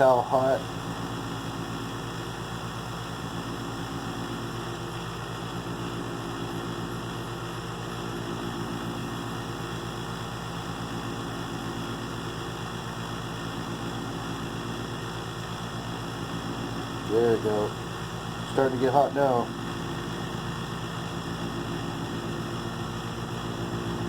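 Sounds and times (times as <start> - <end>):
lathe motor humming: 0.0 - 24.0.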